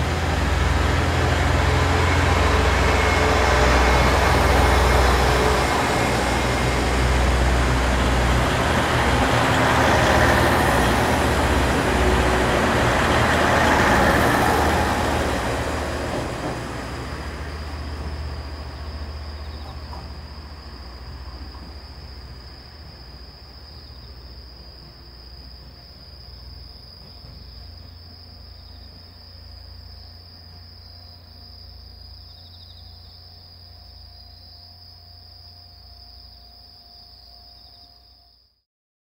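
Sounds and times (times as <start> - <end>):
diesel railcar rumble: 0.0 - 38.2
insects trilling: 1.3 - 38.5.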